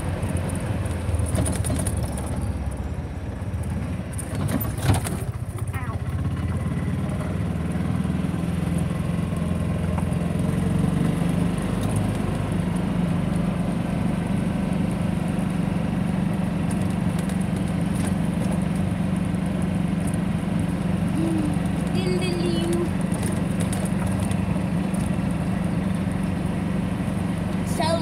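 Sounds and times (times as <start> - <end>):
golf cart engine running: 0.0 - 28.0.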